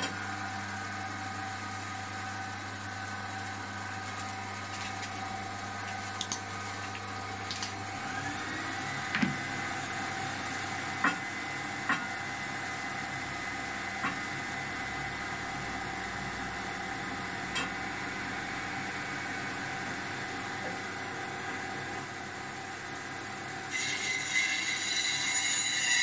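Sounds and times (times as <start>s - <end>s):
workshop machine hum: 0.0s - 26.0s.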